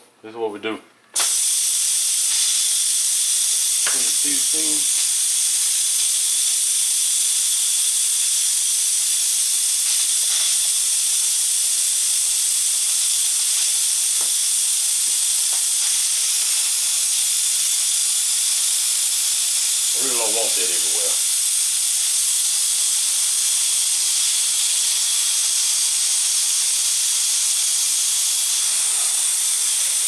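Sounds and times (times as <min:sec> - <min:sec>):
pressure cooker steam hissing: 0:01.2 - 0:30.0.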